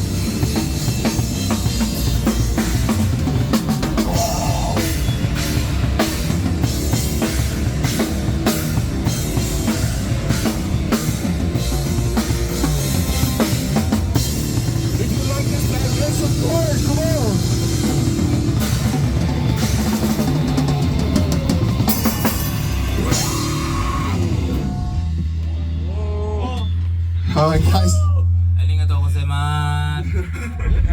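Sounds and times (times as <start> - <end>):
live rock band playing: 0.0 - 25.9
drum kit beat: 0.0 - 29.8.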